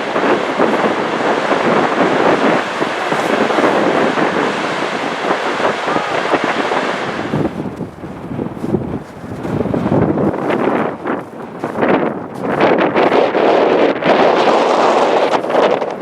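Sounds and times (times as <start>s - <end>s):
loud rushing noise: 0.0s - 15.5s
wind buffeting microphone: 0.0s - 16.0s.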